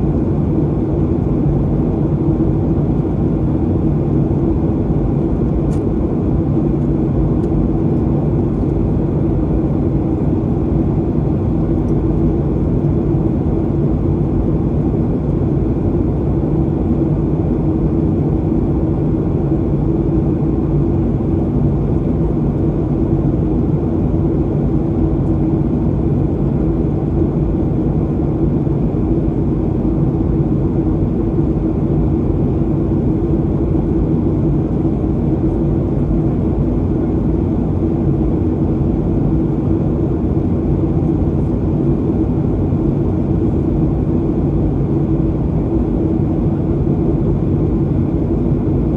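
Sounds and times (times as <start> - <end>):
airplane cabin engine drone: 0.0 - 48.9.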